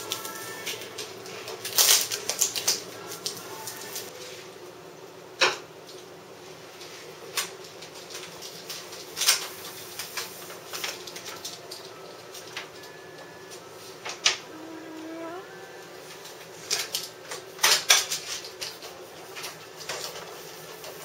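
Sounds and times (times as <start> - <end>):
vinyl film crackling: 0.0 - 4.1, 6.8 - 21.0.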